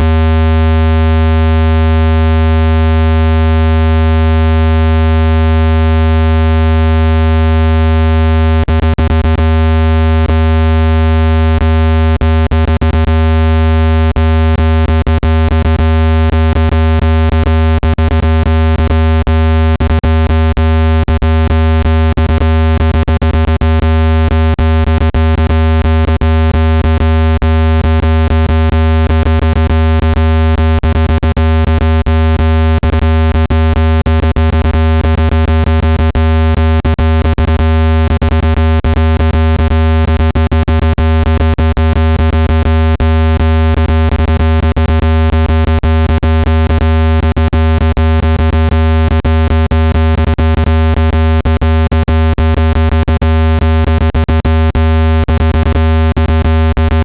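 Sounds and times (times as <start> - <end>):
deep buzzy electronic tone: 0.0 - 57.0.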